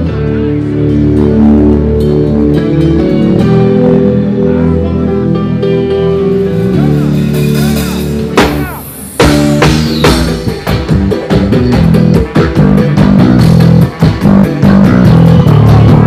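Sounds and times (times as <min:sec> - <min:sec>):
drum kit: 0:00.0 - 0:16.0
electric bass guitar: 0:00.0 - 0:16.0
live band playing: 0:00.0 - 0:16.0.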